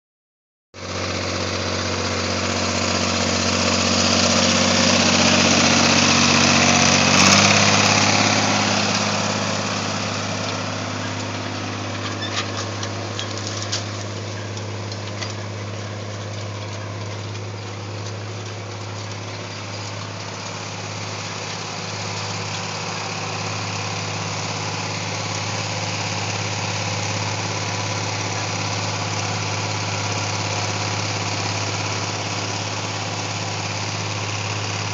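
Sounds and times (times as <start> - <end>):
tractor engine running: 0.8 - 34.9.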